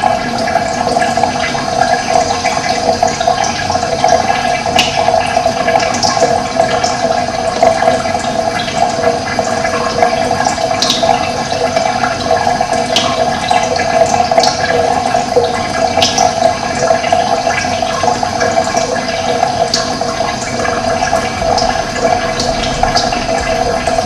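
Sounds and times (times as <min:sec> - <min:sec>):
running water: 0:00.0 - 0:24.0.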